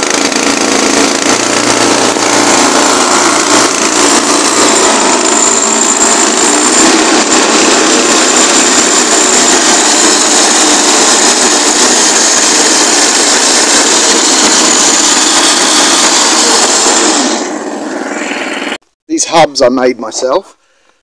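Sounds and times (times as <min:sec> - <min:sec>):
engine running fast: 0:00.0 - 0:18.8
transmission belt high whine: 0:00.0 - 0:18.8.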